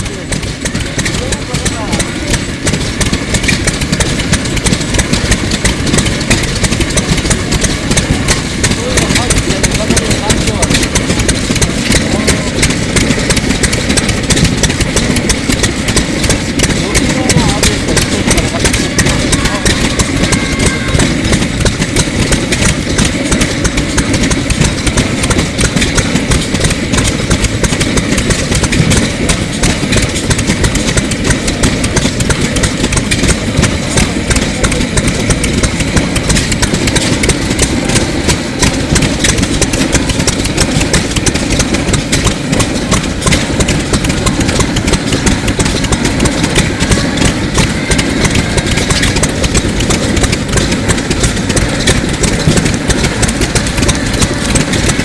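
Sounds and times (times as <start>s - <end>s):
semi-diesel engine running: 0.0s - 55.0s.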